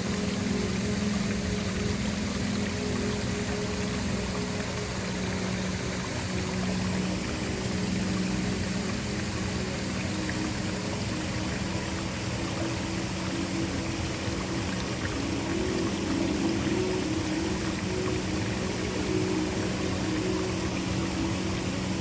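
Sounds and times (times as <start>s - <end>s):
ambient music pad: 0.0s - 22.0s
waterfall rushing: 0.0s - 22.0s.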